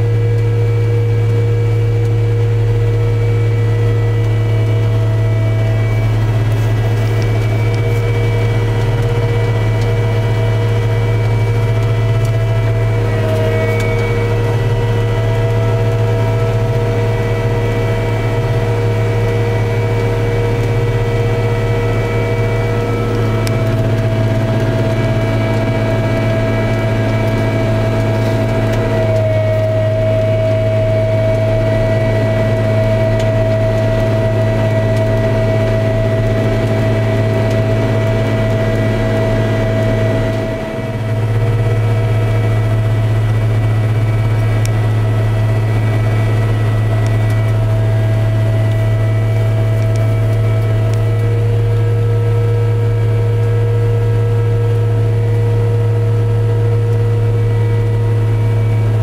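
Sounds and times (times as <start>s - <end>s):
diesel engine drone: 0.0s - 59.0s
high whine: 0.0s - 59.0s.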